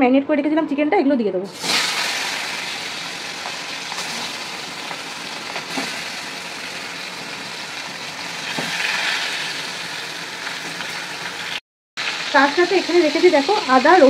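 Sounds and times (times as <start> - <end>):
chicken sizzling in hot oil: 1.5 - 14.0.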